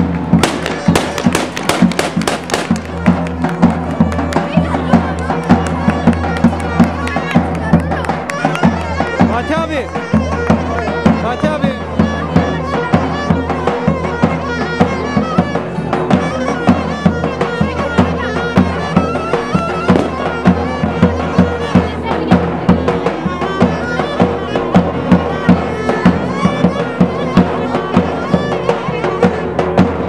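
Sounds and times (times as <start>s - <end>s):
heavy drum strokes: 0.0s - 6.0s, 9.0s - 30.0s
shrill reed-pipe melody: 0.1s - 30.0s.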